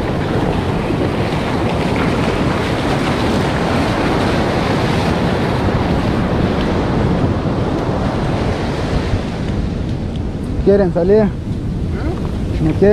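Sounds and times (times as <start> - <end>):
ocean surf washing: 0.0 - 12.9
wind rumbling on microphone: 0.0 - 12.9.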